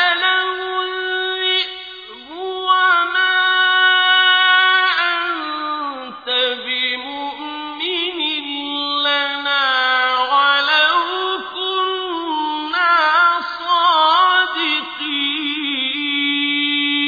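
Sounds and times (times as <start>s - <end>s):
person chanting melodic recitation: 0.0s - 17.0s.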